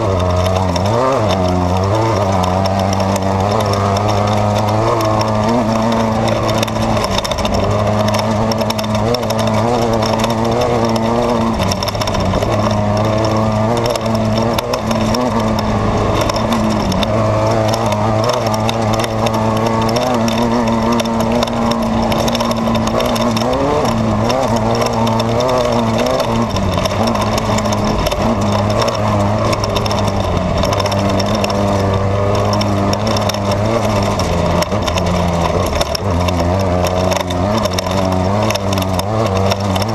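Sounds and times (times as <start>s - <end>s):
chassis clatter: 0.0s - 39.9s
race car engine running hard: 0.0s - 39.9s
road noise: 0.0s - 39.9s.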